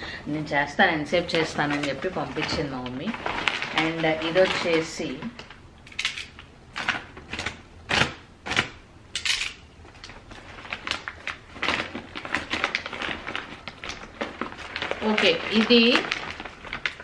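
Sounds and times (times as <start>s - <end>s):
packet crackles: 0.0s - 17.0s
packet crinkling and rustling: 0.6s - 17.0s.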